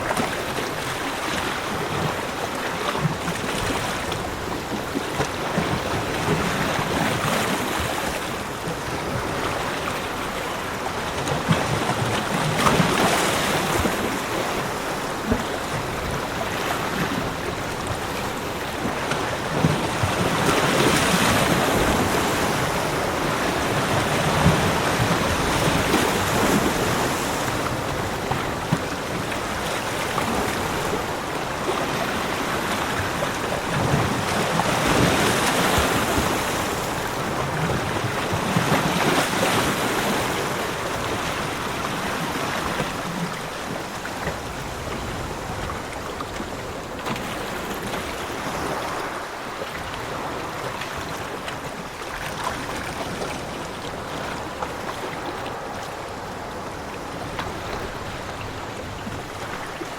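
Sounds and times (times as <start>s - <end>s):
ocean waves washing on beach: 0.0s - 59.9s.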